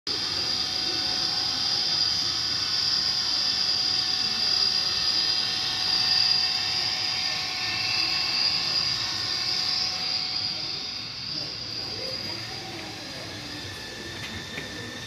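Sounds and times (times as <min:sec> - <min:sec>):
model train motor whirring: 0:00.1 - 0:15.0.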